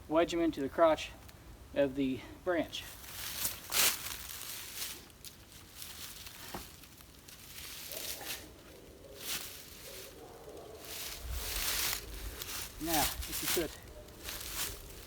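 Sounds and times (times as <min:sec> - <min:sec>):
tree limbs rustling and scraping: 0:02.8 - 0:15.0.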